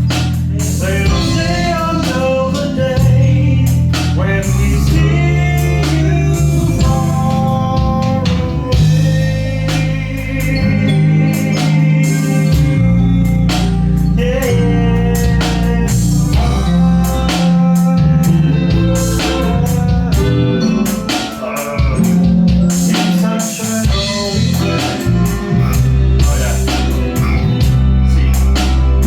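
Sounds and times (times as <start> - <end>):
drum hits: 0.0 - 12.9, 15.2 - 29.0
bass notes: 0.0 - 29.0
rock band playing: 0.0 - 29.0.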